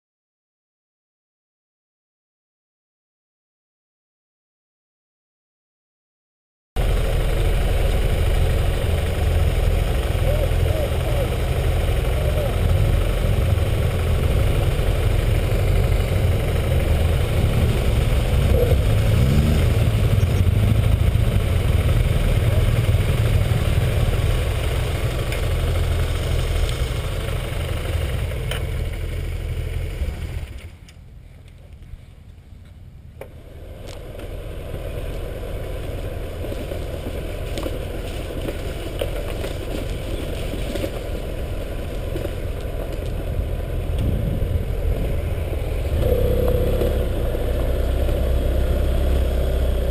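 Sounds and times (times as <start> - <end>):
motorcycle running on gravel: 6.8 - 30.8, 33.5 - 49.9
motorcycle engines idling: 6.8 - 49.9.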